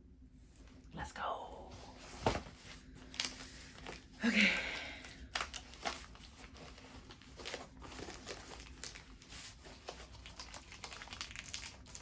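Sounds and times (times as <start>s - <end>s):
package crinkling and rustling: 1.9s - 12.0s.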